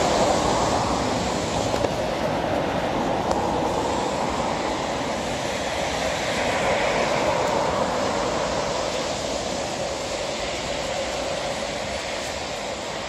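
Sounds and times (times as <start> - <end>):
road traffic tyre hiss: 0.0 - 13.0.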